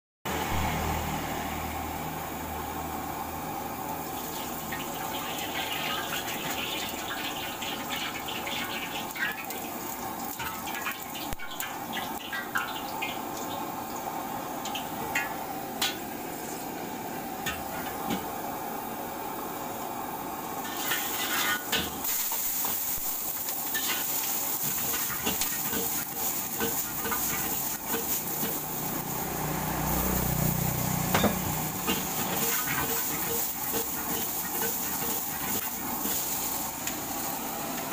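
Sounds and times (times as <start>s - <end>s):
food sizzling in wok: 0.3s - 37.9s
gas burner running: 0.3s - 37.9s.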